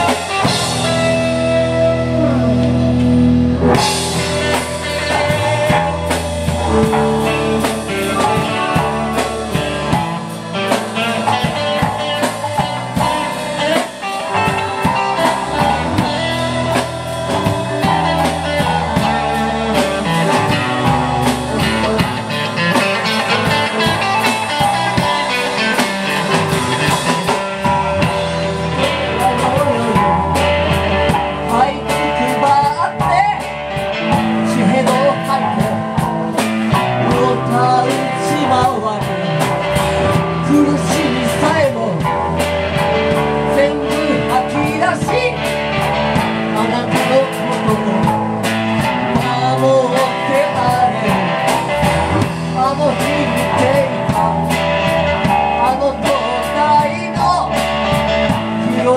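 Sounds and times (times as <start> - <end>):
drum kit beat: 0.0 - 58.9
electric guitars: 0.0 - 58.9.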